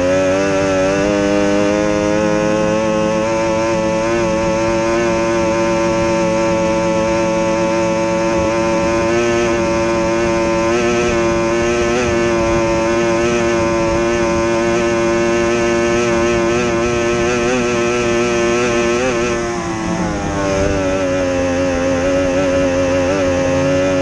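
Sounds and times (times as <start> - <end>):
race boat outboard engine: 0.0 - 24.0.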